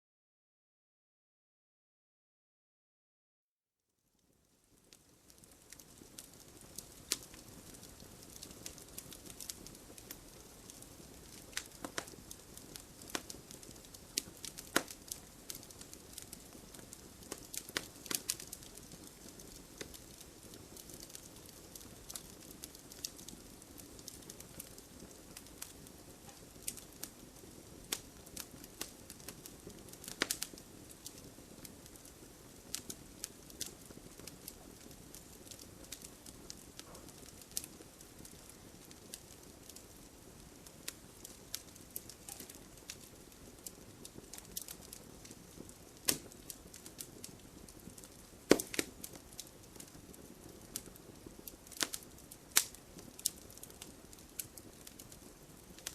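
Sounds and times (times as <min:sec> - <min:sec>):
fireplace fire crackling: 0:04.0 - 0:55.9.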